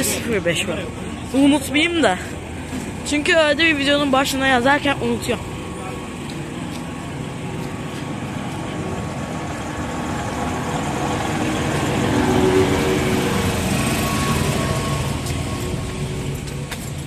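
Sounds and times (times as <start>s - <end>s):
passenger train rumbling past: 0.0s - 17.0s.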